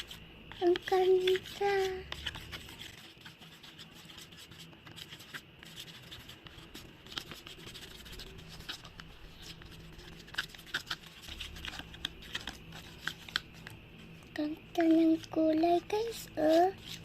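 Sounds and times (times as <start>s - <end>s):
stirrer scraping and clicking: 0.0s - 13.8s.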